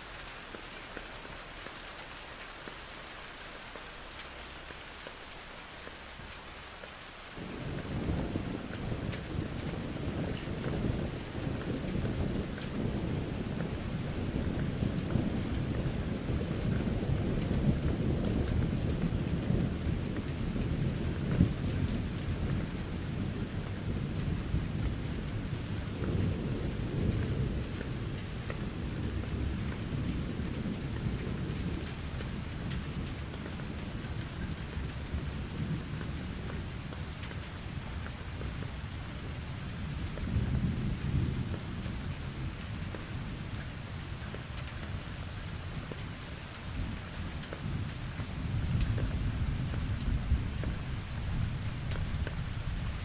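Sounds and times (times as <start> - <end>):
steady rain: 0.0 - 53.0
low rolling thunder: 3.7 - 53.0.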